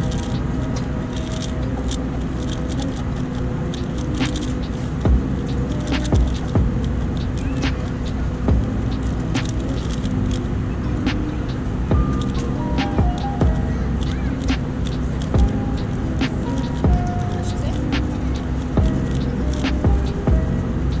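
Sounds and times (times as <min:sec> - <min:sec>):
airliner cabin rumble: 0:00.0 - 0:21.0
sharp clicks: 0:00.0 - 0:21.0.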